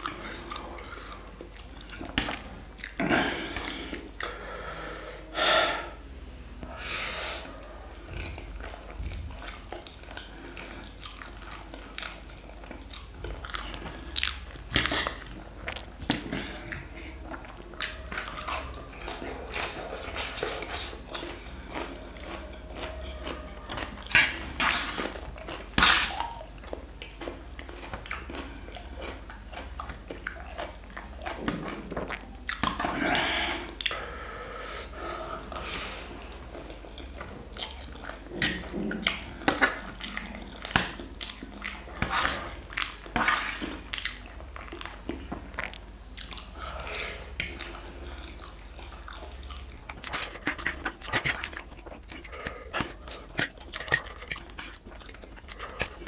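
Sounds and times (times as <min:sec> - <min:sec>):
chewing and slurping noodles: 0:07.5 - 0:34.1, 0:34.8 - 0:56.0.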